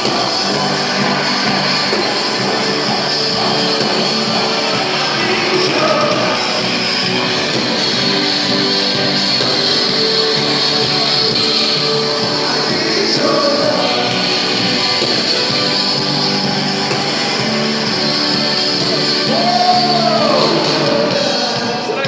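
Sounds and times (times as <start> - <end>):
guitars: 0.0 - 22.0
live rock band playing: 0.0 - 22.0.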